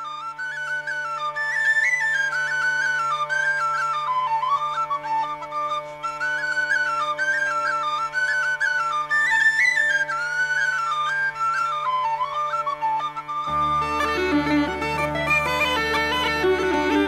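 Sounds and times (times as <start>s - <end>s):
quick high folk melody: 0.0s - 17.0s.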